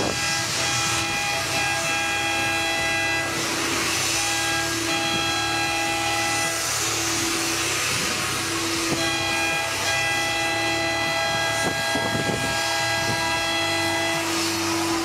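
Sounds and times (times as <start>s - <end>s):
ships' horns blowing: 0.0s - 15.0s
steady rushing noise: 0.0s - 15.0s.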